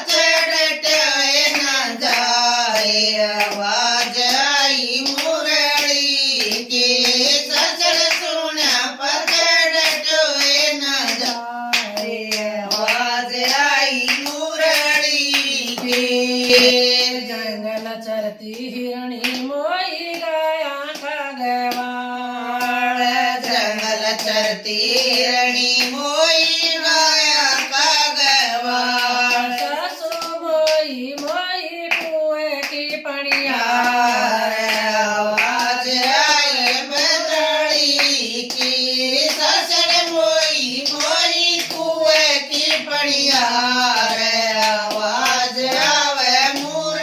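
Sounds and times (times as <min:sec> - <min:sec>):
hand claps keeping time: 0:00.0 - 0:17.2, 0:22.6 - 0:47.0
woman singing devotional song: 0:00.0 - 0:47.0.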